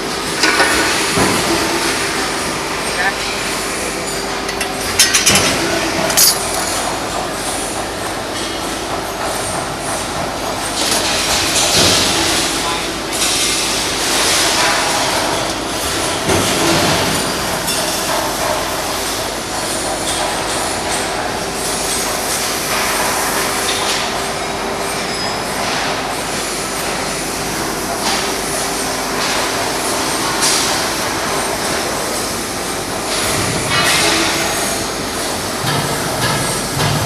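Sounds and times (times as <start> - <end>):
factory machinery humming: 0.0 - 37.0.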